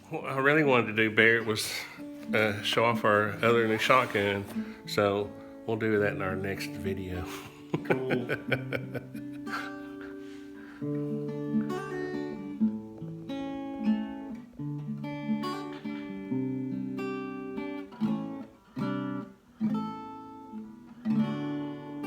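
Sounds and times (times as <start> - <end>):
acoustic guitar strummed chords: 0.5 - 22.0.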